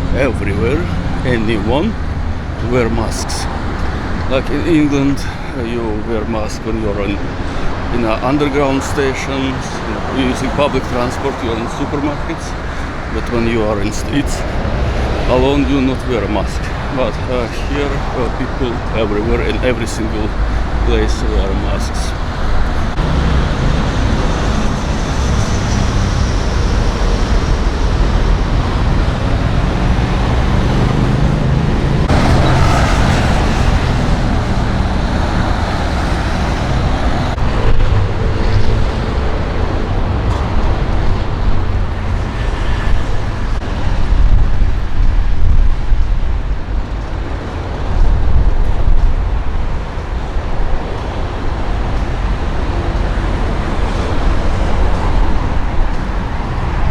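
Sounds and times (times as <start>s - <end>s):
traffic rumble: 0.0s - 56.9s.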